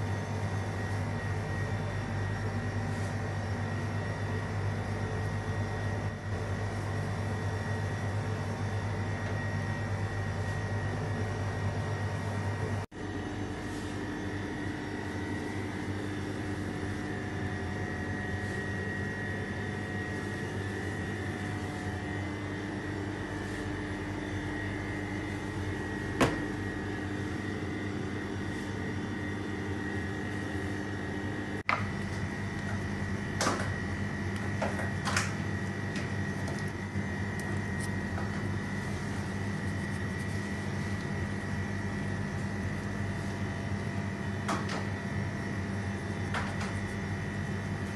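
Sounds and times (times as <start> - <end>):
appliance humming: 0.0 - 47.9.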